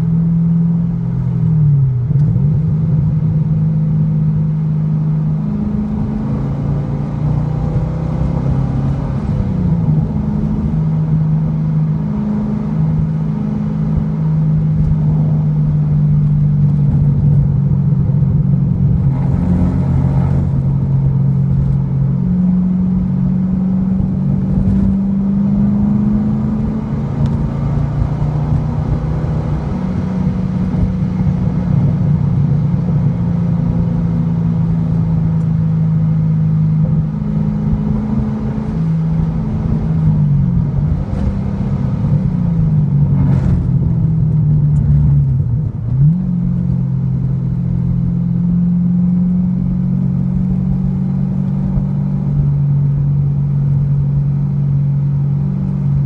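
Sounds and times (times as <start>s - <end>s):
car engine cruising: 0.0s - 56.0s
road noise: 0.0s - 56.0s.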